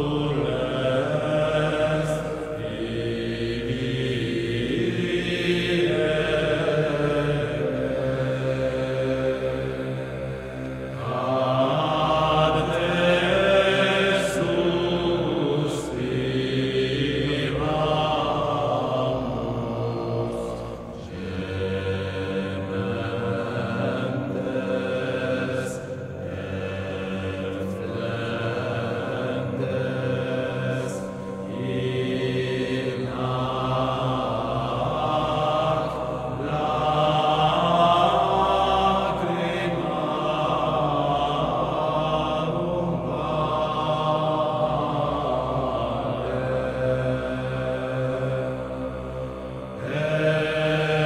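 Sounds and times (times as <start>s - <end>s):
slow chant-like music: 0.0s - 51.0s.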